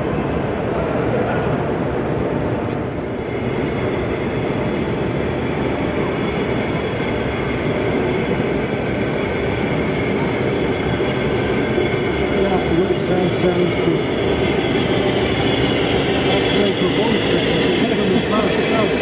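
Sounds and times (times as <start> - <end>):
model train wheels on rail: 3.4 - 19.0.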